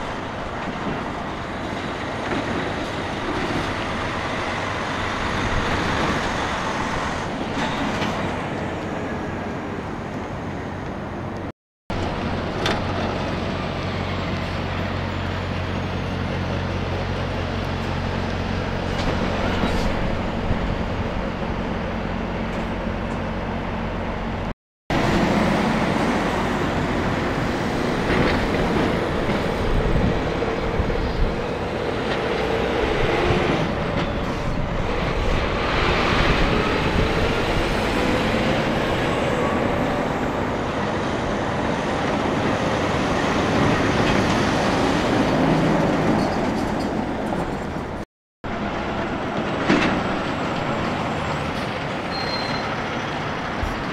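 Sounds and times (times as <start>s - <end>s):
truck diesel engines speeding up: 0.0s - 53.9s
tyre and road noise: 0.0s - 53.9s.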